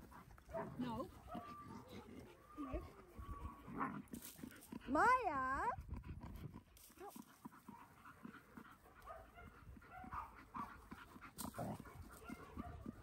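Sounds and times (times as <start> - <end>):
dogs making quiet vocal sounds: 0.0 - 13.0.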